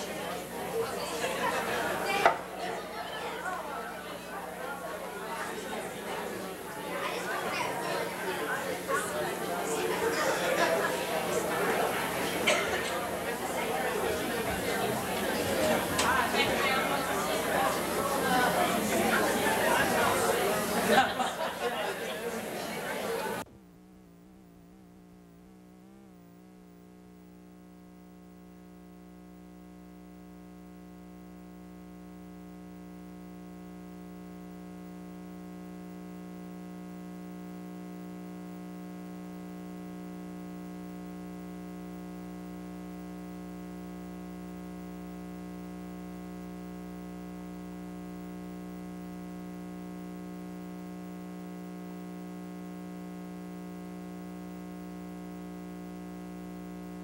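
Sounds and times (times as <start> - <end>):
buzzy electrical hum: 0.0 - 57.0.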